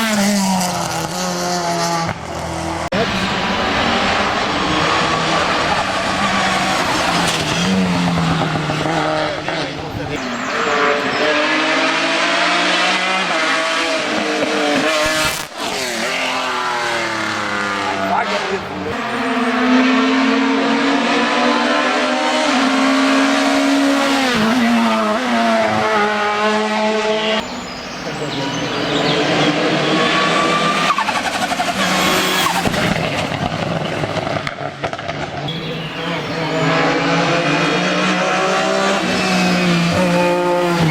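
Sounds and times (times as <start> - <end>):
race car engine running hard: 0.8 - 40.9.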